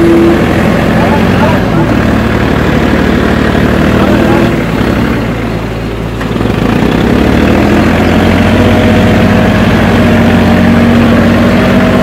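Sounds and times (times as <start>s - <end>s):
earthmoving machine engine running: 0.0s - 12.0s.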